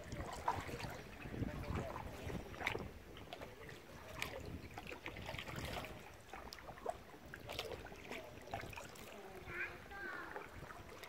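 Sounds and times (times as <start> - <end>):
kayak paddle splashing: 0.0 - 11.0.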